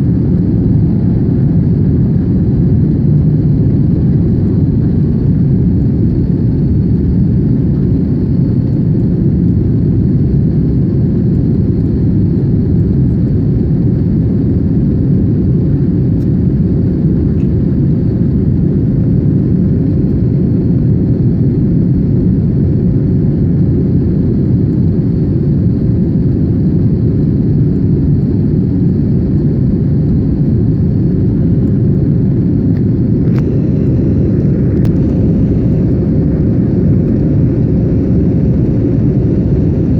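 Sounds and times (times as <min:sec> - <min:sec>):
faint engine whine: 0:00.0 - 0:39.9
jet engines rumbling: 0:00.0 - 0:39.9.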